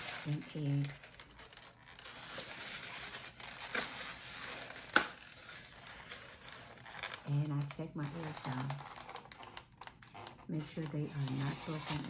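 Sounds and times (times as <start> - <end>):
egg carton crinkly rustling: 0.0 - 12.0.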